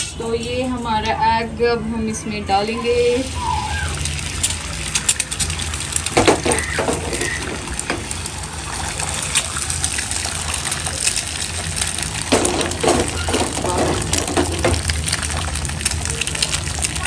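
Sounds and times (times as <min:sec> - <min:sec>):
eggs sizzling in hot pan: 0:02.6 - 0:17.0.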